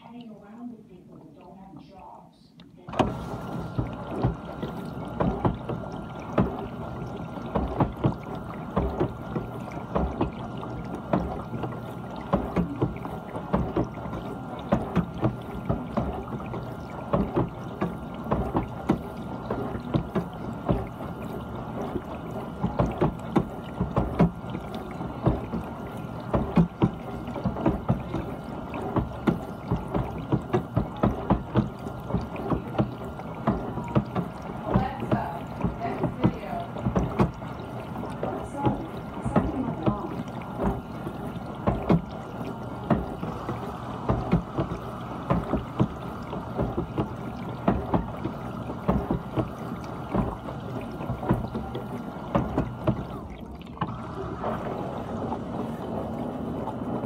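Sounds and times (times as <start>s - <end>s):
dishwasher pump humming: 0.0s - 57.0s
water splashing against dishes: 2.7s - 57.0s.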